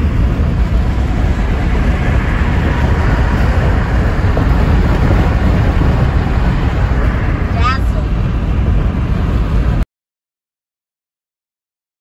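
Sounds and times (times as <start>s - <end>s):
car cabin road noise: 0.0s - 9.8s.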